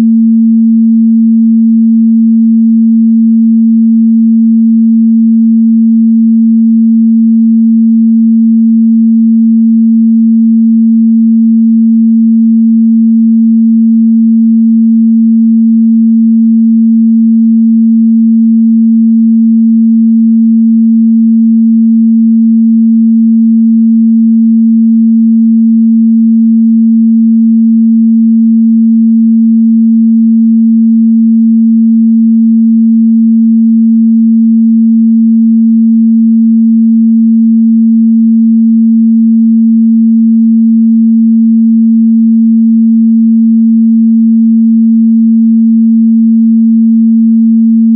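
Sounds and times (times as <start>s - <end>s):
sine-wave test tone: 0.0s - 47.9s.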